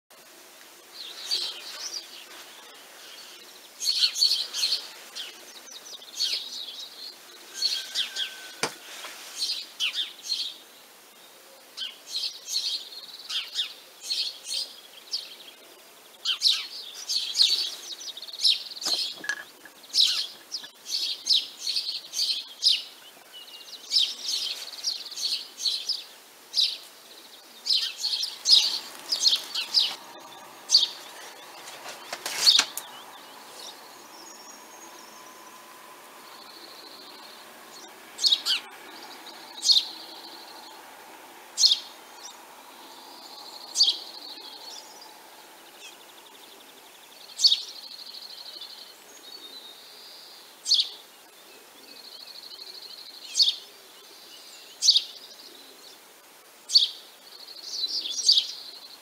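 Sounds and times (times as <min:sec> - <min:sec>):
sparrows chirping: 0:00.9 - 0:56.1, 0:56.7 - 0:59.0.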